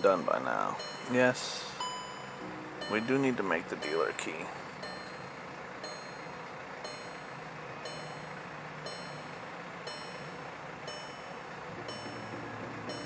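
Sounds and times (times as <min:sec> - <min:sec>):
steady low hum: 0:00.0 - 0:13.0
electronic warning chime: 0:00.8 - 0:13.0.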